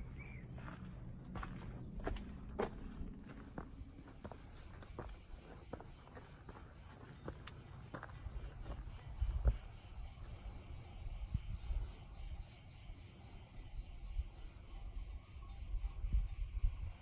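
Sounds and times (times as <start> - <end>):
crickets chirping: 1.4 - 17.0.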